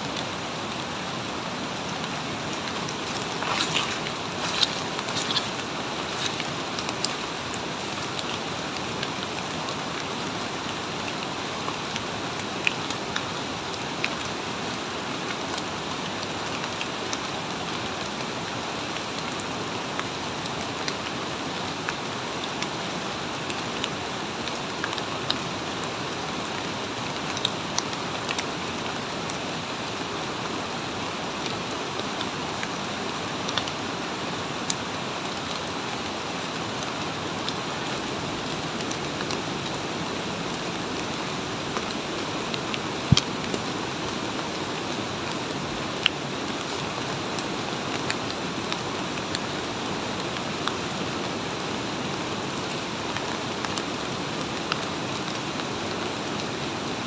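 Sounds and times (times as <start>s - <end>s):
heavy rain hissing: 0.0s - 24.4s, 28.0s - 53.5s.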